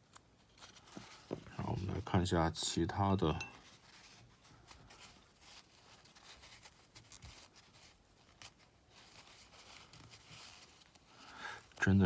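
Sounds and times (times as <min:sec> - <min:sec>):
rustling: 0:00.4 - 0:12.0.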